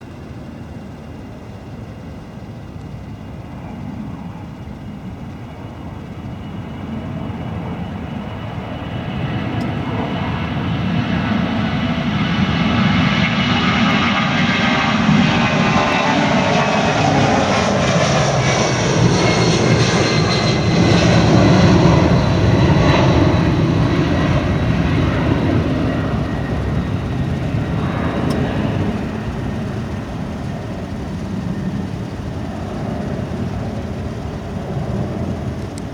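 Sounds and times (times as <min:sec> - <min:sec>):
jet engine roar: 0:00.0 - 0:35.9.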